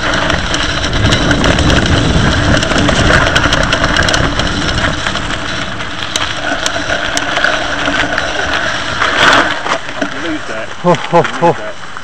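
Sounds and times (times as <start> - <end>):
bike rumbling and rattling: 0.0 - 12.0
wheels knocking on stones: 0.0 - 12.0.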